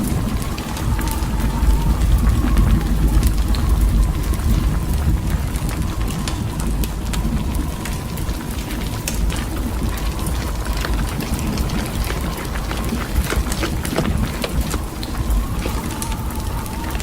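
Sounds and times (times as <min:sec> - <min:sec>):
snow ticking against surfaces: 0:00.0 - 0:17.0
wind buffeting microphone: 0:00.0 - 0:17.0.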